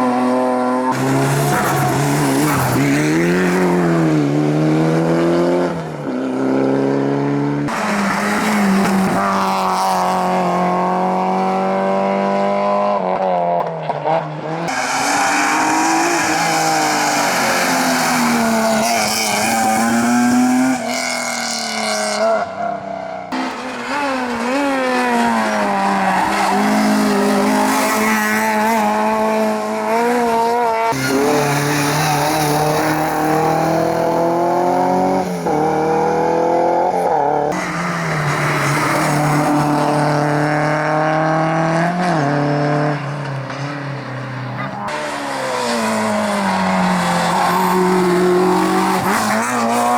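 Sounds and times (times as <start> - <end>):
race car engines revving: 0.0 - 49.9.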